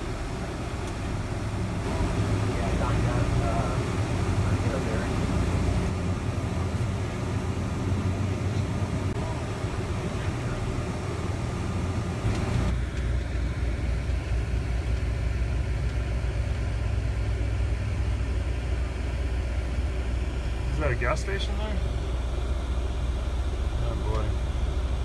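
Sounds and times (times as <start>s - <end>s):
engine rumble inside cab: 0.0s - 25.0s.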